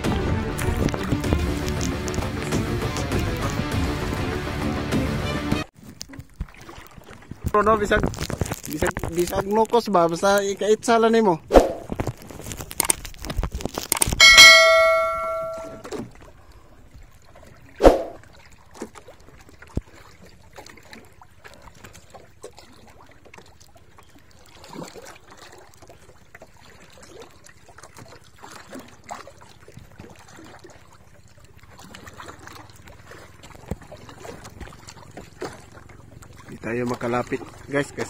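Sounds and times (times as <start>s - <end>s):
water lapping against boat hull: 0.0s - 4.1s, 5.8s - 14.0s, 14.7s - 38.0s.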